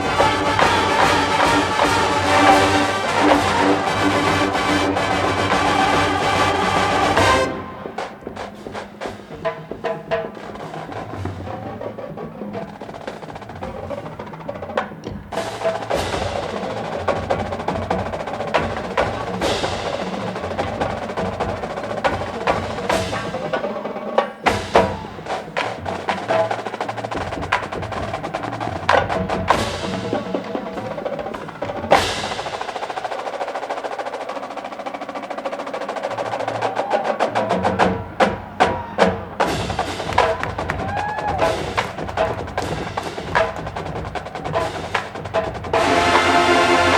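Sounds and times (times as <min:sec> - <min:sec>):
marching band playing: 0:00.0 - 0:46.9
rapid drum strikes and rolls: 0:00.0 - 0:46.9.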